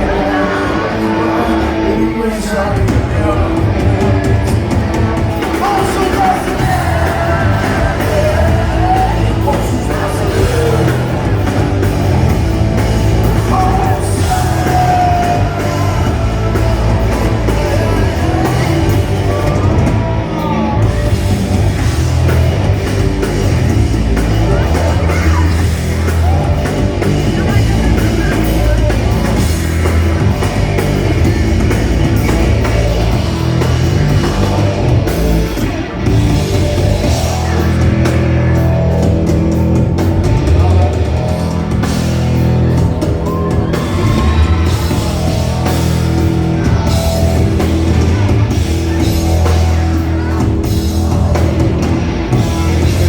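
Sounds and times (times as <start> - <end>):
person singing lead vocals: 0.0 - 53.0
rock band playing live: 0.0 - 53.0.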